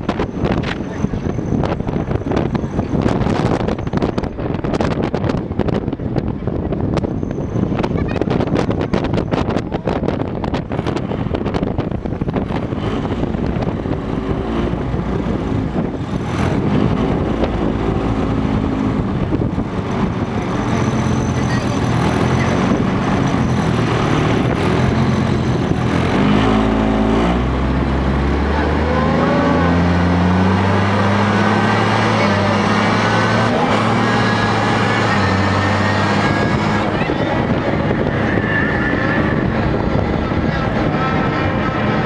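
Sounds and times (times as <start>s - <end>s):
armoured vehicle engine running: 0.0s - 42.0s
wind buffeting microphone: 0.0s - 42.0s.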